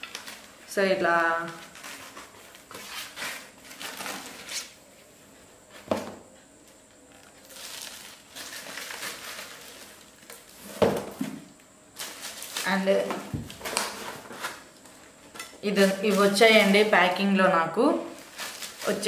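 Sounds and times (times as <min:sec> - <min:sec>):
foam and plastic wrap crinkling: 0:00.0 - 0:05.8, 0:06.6 - 0:11.2, 0:11.9 - 0:19.0.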